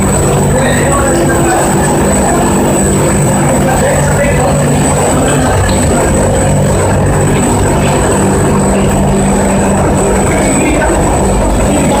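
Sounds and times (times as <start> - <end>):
high-pitched whine: 0.0 - 12.0
washing machine drone: 0.0 - 12.0.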